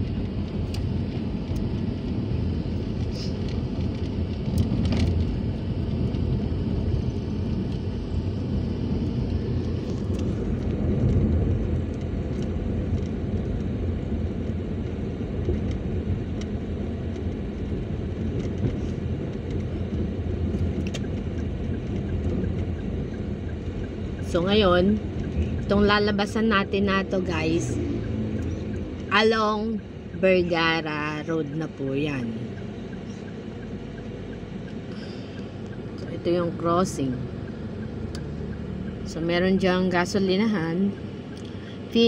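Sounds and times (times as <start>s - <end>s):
car interior road rumble: 0.0s - 42.0s.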